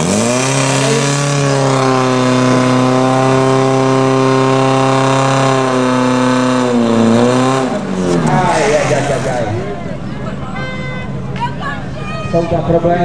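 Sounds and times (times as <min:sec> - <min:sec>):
fire pump engine at full revs: 0:00.0 - 0:11.3.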